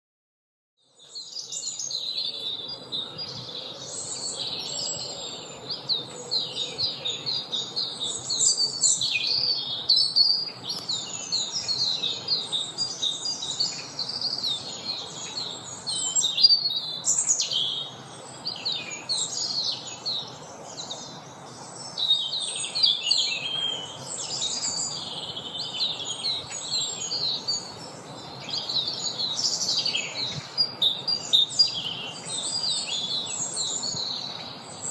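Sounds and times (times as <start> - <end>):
songbirds chirping and trilling: 0.8 - 34.9.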